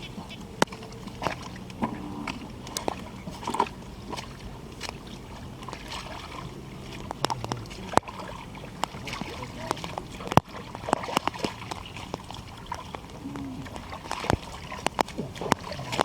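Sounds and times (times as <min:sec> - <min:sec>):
sharp splashes and clicks: 0:00.0 - 0:16.0
water sloshing and splashing: 0:00.0 - 0:16.0.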